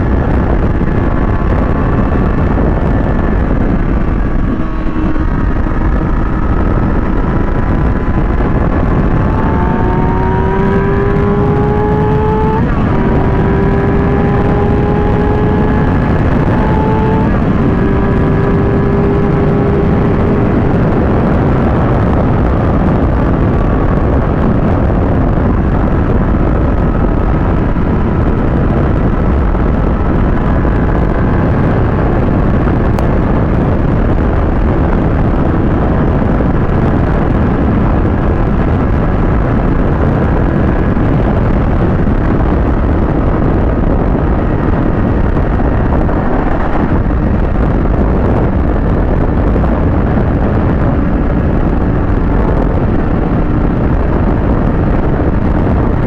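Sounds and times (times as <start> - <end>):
motorcycle engine revving: 0.0 - 56.0
wind rush over microphone: 0.0 - 56.0.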